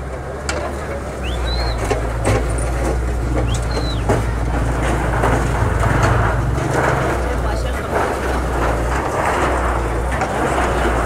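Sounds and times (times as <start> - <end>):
excavator diesel engine running: 0.0 - 11.0
rubble knocking: 0.5 - 11.0.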